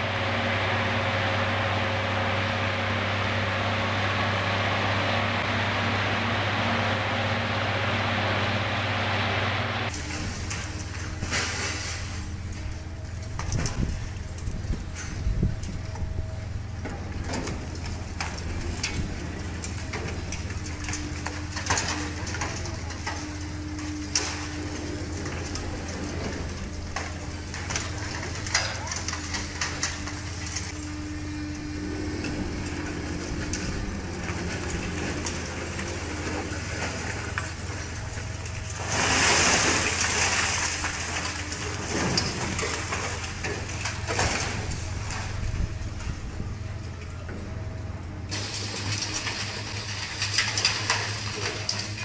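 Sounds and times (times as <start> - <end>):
heavy equipment engine running: 0.0 - 52.0.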